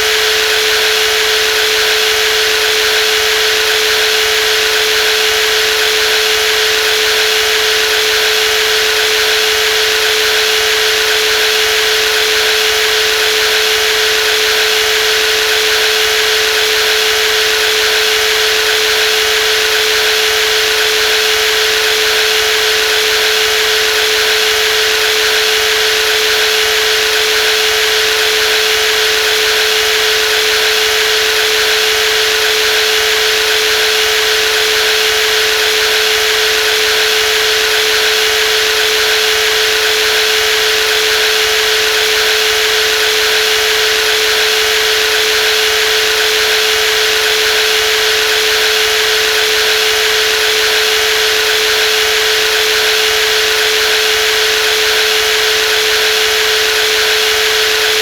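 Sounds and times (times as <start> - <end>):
jigsaw running: 0.0 - 58.0.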